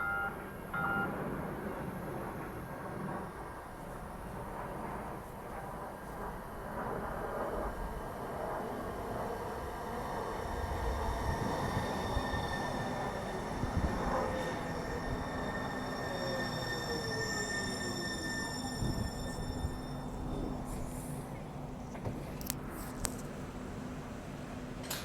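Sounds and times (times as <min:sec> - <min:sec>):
train wheels rumbling on rails: 0:00.3 - 0:25.0.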